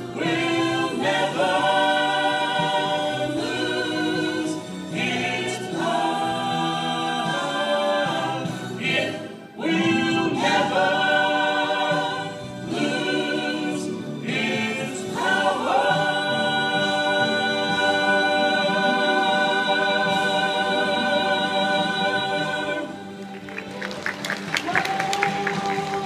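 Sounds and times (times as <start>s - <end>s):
vocal trio singing in harmony: 0.0s - 26.0s.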